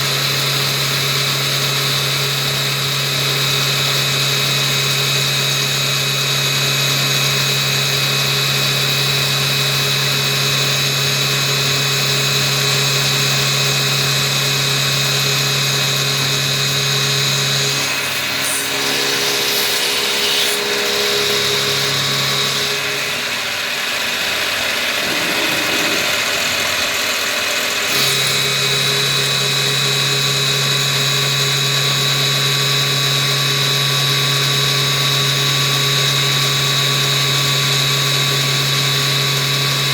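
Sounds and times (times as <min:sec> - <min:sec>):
milling machine hum and whine: 0:00.1 - 0:35.1.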